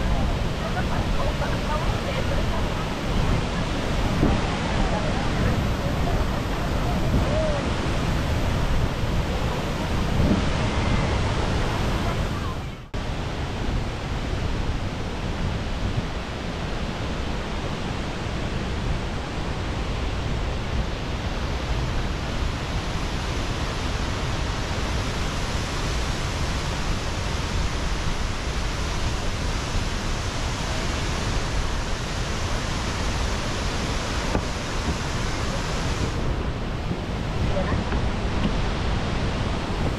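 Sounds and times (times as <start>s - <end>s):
large waterfall rushing: 0.0s - 39.9s.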